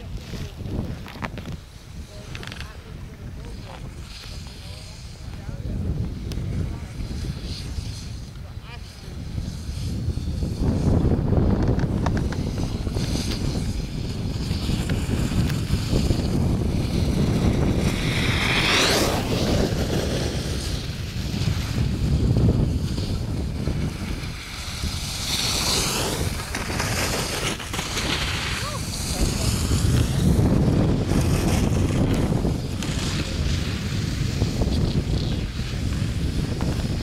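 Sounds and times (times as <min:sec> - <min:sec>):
skis carving on hard snow: 0:00.0 - 0:37.0
wind buffeting microphone: 0:00.0 - 0:37.0.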